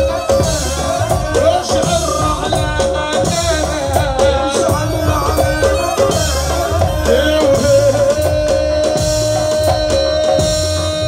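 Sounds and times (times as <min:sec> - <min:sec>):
drum beat: 0:00.0 - 0:11.0
man singing into microphone: 0:00.0 - 0:11.0.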